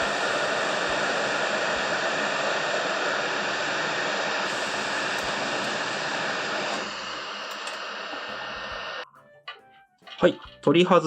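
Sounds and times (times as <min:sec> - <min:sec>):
heat gun blowing air: 0:00.0 - 0:09.0.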